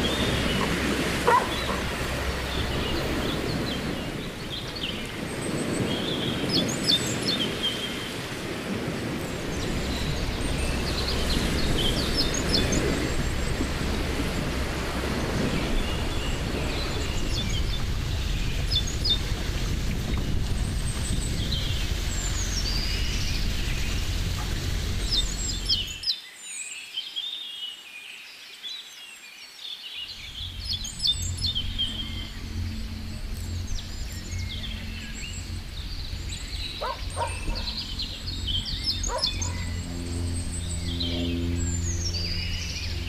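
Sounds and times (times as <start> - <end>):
low outdoor rumble: 0.0 - 6.7, 8.3 - 26.0, 30.2 - 43.0
small birds chirping and trilling: 0.0 - 43.0.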